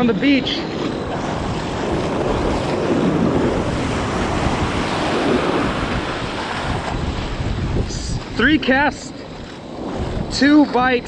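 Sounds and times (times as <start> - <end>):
surf washing up beach: 0.0 - 11.0
wind buffeting microphone: 0.0 - 11.0.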